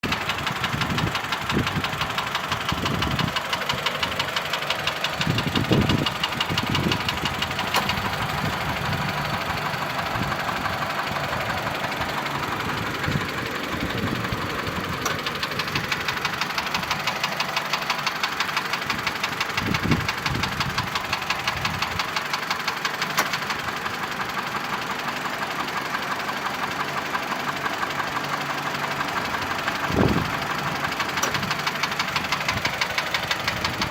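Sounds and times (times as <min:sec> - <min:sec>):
engine idling with ticking knock: 0:00.0 - 0:33.9.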